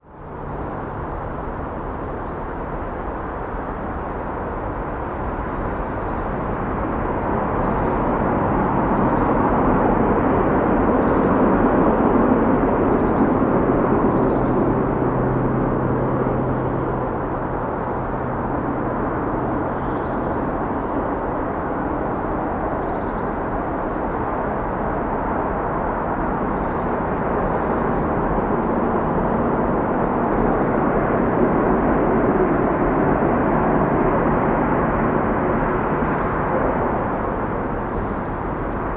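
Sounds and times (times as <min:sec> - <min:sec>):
distant freeway traffic: 0:00.0 - 0:38.9.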